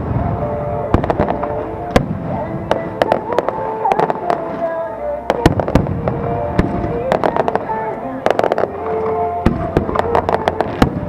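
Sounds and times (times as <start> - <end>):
fireworks banging: 0.0 - 11.0
music with held notes: 0.0 - 11.0.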